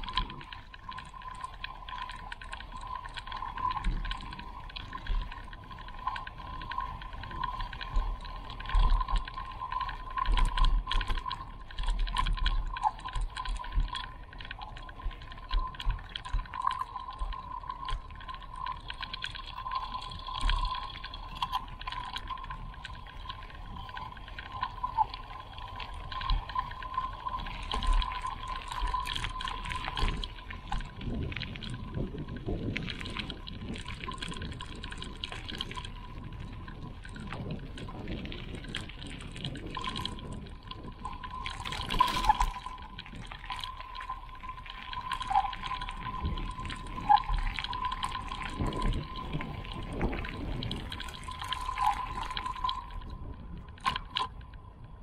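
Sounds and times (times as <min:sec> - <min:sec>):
creek water trickling and gurgling: 0:00.0 - 0:55.0
small water splashes: 0:00.0 - 0:55.0.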